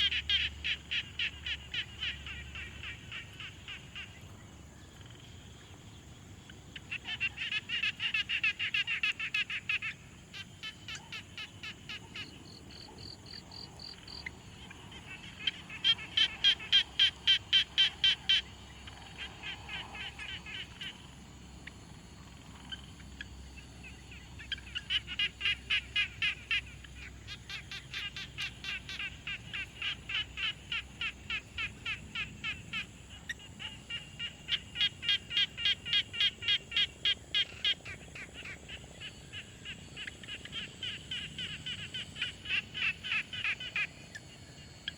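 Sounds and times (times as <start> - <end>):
frogs calling: 0.0 - 44.9.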